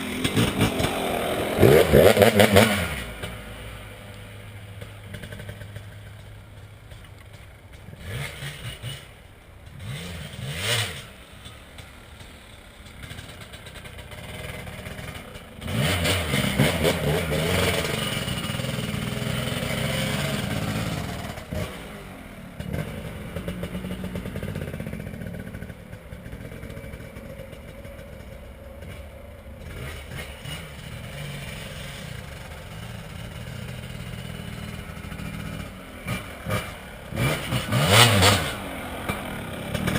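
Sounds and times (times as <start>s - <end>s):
dirt bike engine revving: 0.0s - 6.1s, 7.8s - 39.9s.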